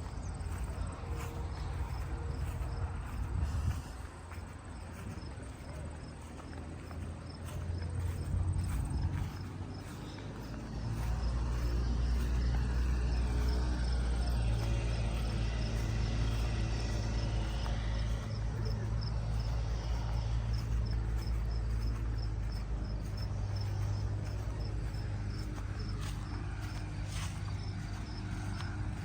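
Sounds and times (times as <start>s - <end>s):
engine humming at low speed: 0.0s - 29.0s.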